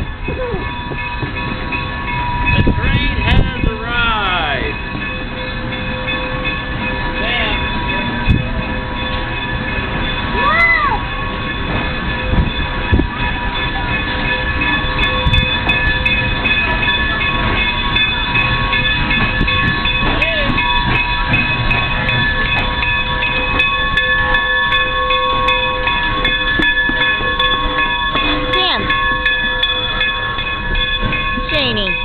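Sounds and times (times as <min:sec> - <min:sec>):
high steady ringing tones: 0:00.0 - 0:32.0
train rumbling past: 0:00.0 - 0:32.0
wheels clicking over rail joints: 0:04.5 - 0:32.0.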